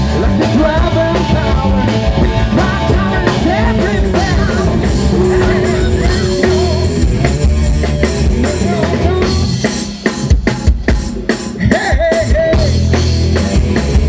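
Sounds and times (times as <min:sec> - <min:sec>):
man singing: 0:00.0 - 0:09.8, 0:11.5 - 0:13.6
bass guitar: 0:00.0 - 0:14.0
drum kit: 0:00.0 - 0:14.0
electric guitar: 0:00.0 - 0:14.0.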